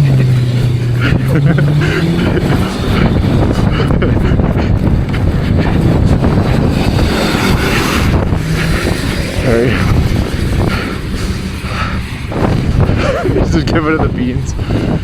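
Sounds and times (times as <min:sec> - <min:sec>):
motorbike engine revving hard: 0:00.0 - 0:13.8
wind buffeting microphone: 0:00.0 - 0:15.0.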